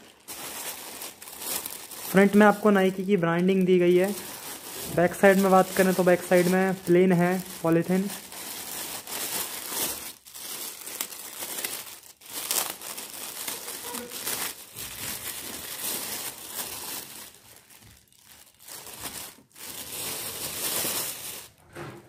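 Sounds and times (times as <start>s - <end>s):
plastic bag crinkling: 0.0s - 21.6s.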